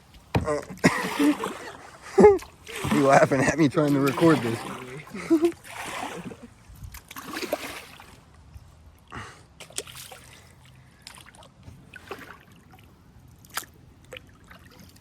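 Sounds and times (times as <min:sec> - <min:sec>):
paddle stroking through water: 0:00.0 - 0:08.3, 0:09.6 - 0:15.0.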